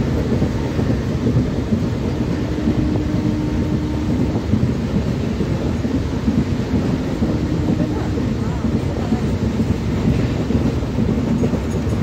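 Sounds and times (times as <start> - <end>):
train running rumble: 0.0 - 12.0
wind on microphone: 0.0 - 12.0.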